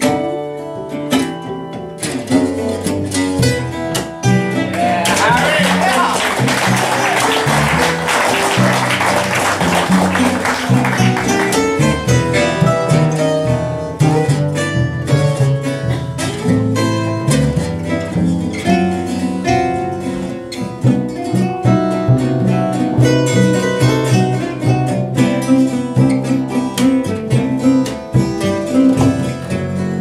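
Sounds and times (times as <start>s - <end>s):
plucked double bass: 0.0s - 5.4s, 7.4s - 30.0s
acoustic guitars picking notes: 0.0s - 30.0s.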